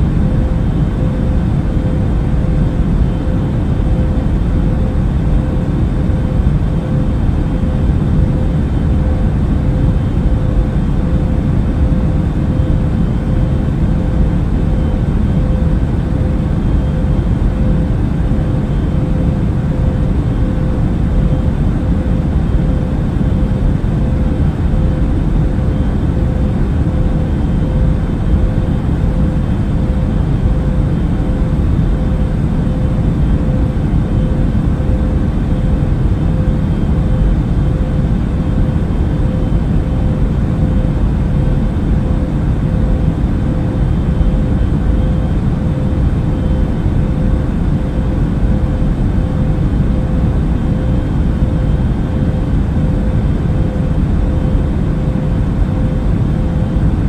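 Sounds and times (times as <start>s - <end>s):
airplane cabin engine rumble: 0.0s - 57.0s
constant hum: 0.0s - 57.0s.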